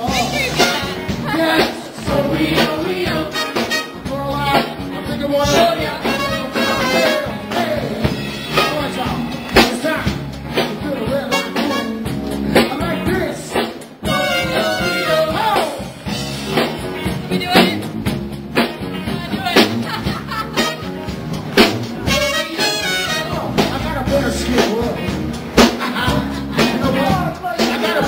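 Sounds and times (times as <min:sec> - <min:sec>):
crowd chatter: 0:00.0 - 0:28.0
drum beat: 0:00.0 - 0:28.0
live band playing dance music: 0:00.0 - 0:28.0.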